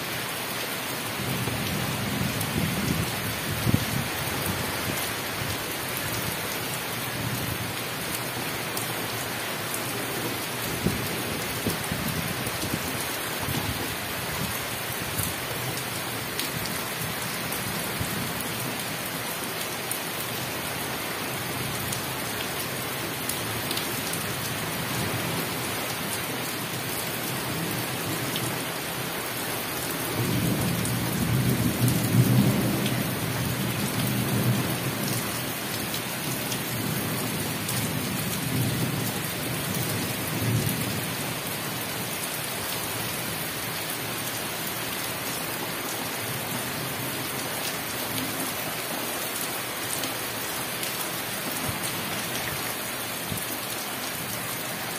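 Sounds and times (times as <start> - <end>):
rain falling on trees: 0.0 - 54.9.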